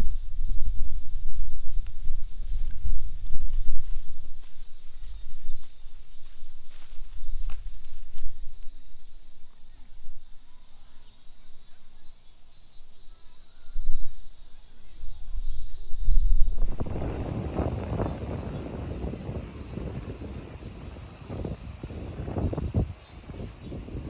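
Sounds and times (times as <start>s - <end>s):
insects chorus: 0.0s - 24.0s
wind rumbling on microphone: 0.0s - 24.0s.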